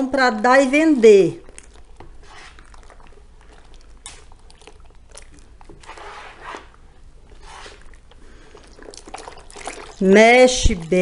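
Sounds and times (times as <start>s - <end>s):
foamy liquid swishing: 0.6s - 11.0s.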